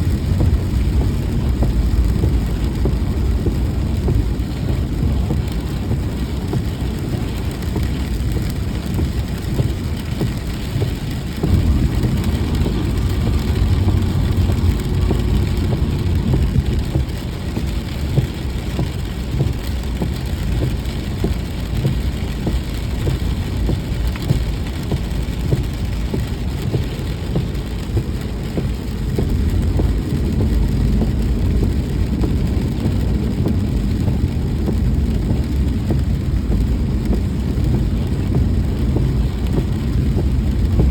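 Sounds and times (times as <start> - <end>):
car road and engine rumble: 0.0 - 40.9
rain hissing: 0.0 - 40.9.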